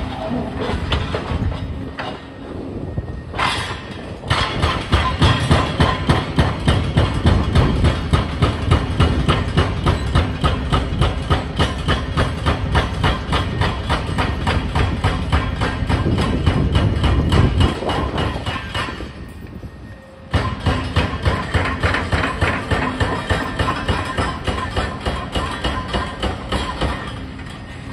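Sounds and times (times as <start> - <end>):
hydraulic breaker pounding concrete: 0.0 - 2.3, 3.4 - 19.3, 20.3 - 27.9.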